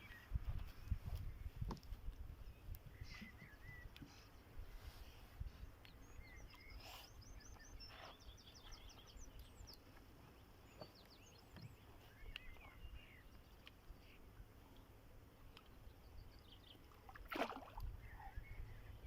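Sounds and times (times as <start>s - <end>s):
songbirds chirping and whistling: 0.0s - 14.9s, 15.5s - 19.0s.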